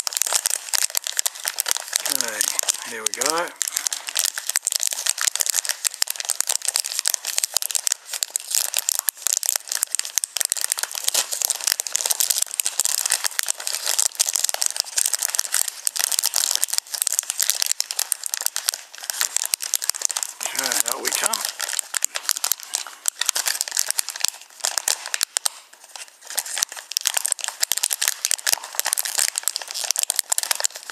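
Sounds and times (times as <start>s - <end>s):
plastic bag crinkling: 0.0s - 30.9s.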